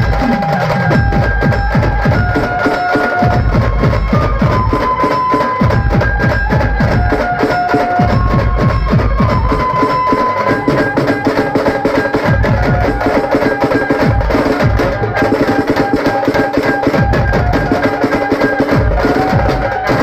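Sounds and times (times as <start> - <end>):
fast dense drumming: 0.0 - 20.0.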